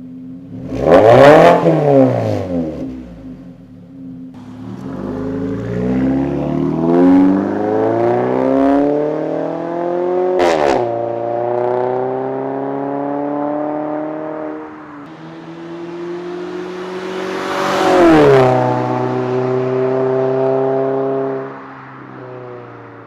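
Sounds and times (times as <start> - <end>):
car engine revving: 0.3 - 23.0.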